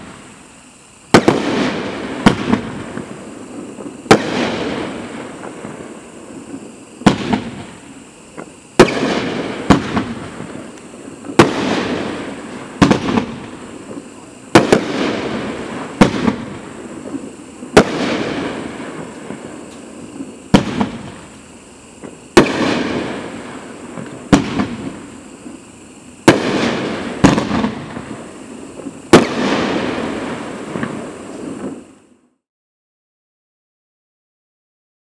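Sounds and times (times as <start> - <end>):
fireworks bangs: 0.0 - 32.1
fireworks crackling: 0.0 - 32.2.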